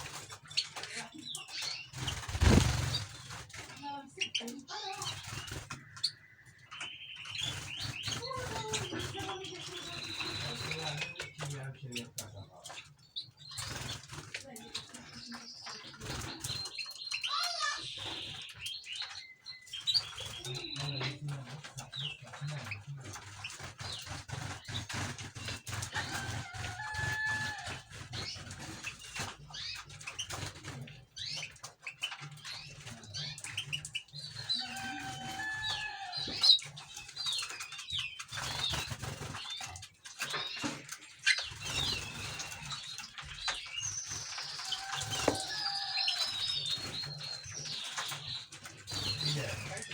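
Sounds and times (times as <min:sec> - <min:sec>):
wings fluttering: 0:00.0 - 0:06.2, 0:06.8 - 0:18.4, 0:19.8 - 0:49.9
cage birds chirping: 0:00.0 - 0:49.9.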